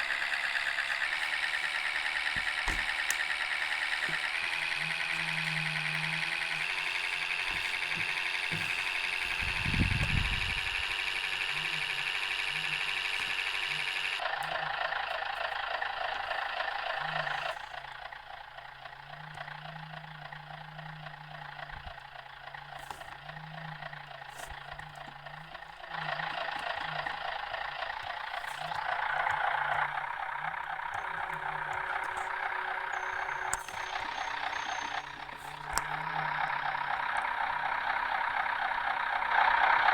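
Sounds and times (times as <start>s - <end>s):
road noise: 0.0s - 20.4s, 21.1s - 39.9s
bus diesel engine: 0.0s - 39.9s.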